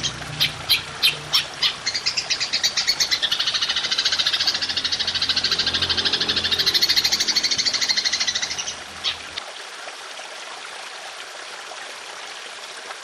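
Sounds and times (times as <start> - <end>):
trickling water hiss: 0.0 - 13.0.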